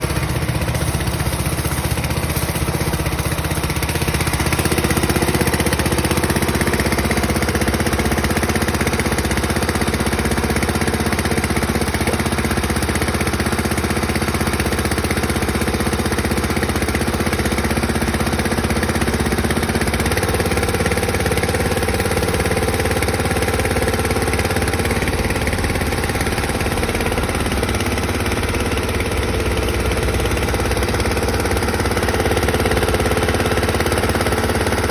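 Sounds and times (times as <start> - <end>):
pressure washer humming: 0.0 - 34.9.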